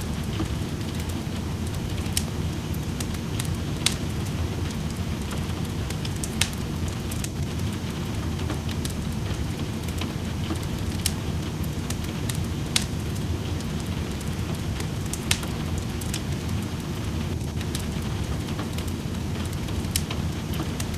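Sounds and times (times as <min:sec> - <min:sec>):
rain falling: 0:00.0 - 0:20.9
wood fire crackling and popping: 0:00.0 - 0:20.9.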